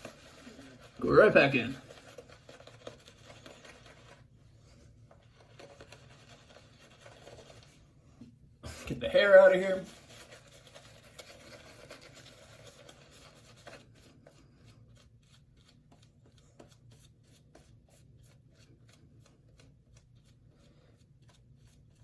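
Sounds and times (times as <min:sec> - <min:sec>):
shaving brush lathering soap: 0:00.0 - 0:08.0, 0:08.7 - 0:22.0.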